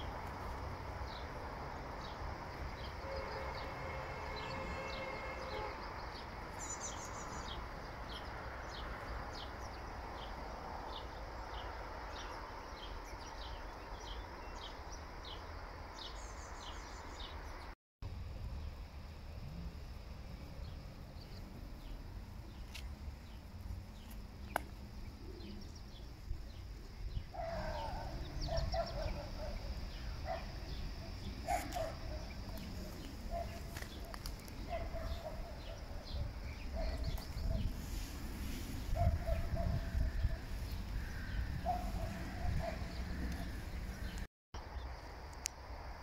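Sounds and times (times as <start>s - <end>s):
small birds chirping: 4.4s - 17.8s, 20.6s - 45.5s.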